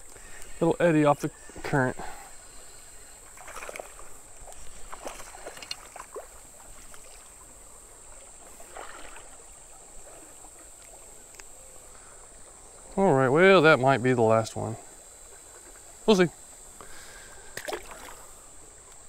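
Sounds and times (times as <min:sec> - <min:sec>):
high-pitched insect chorus: 0:00.0 - 0:19.0
water splashes: 0:03.2 - 0:18.9.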